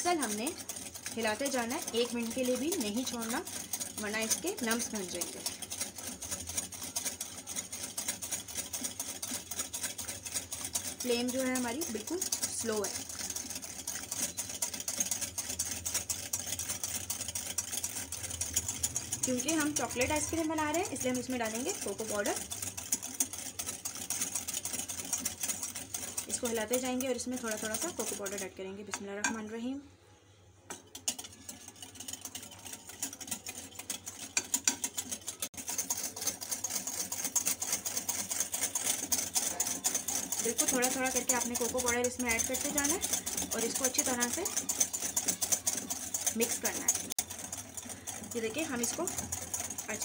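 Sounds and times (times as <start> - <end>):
whisk beating in glass bowl: 0.0 - 29.8, 30.7 - 50.0.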